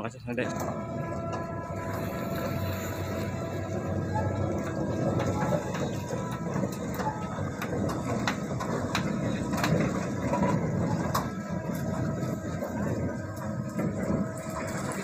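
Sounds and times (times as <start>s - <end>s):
winch droning: 0.3s - 15.0s
cradle knocking on rails: 0.5s - 15.0s.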